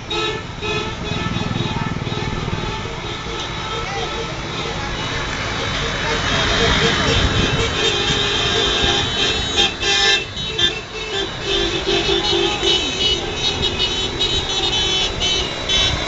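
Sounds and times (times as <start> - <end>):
car horns honking: 0.0 - 16.0
traffic noise: 0.0 - 16.0.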